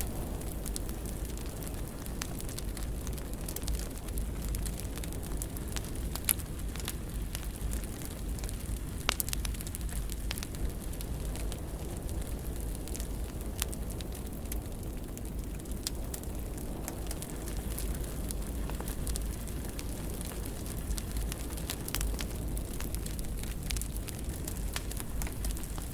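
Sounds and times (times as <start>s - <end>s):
fire crackling and popping: 0.0s - 25.9s.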